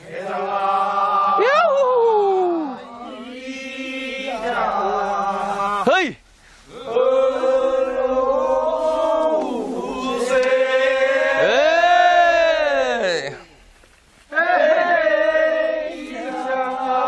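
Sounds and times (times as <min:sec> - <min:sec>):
men singing a work song: 0:00.0 - 0:01.7, 0:02.6 - 0:13.1, 0:14.3 - 0:17.0.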